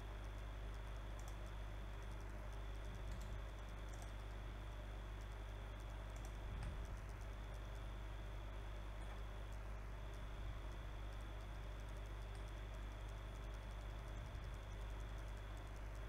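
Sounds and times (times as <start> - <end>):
steady low hum: 0.0 - 16.0
computer mouse clicks: 0.2 - 8.0, 9.0 - 16.0.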